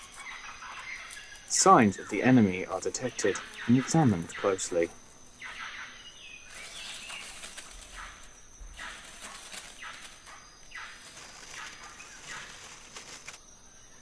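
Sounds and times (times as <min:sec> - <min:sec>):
leaves and undergrowth rustling: 0:00.0 - 0:13.8.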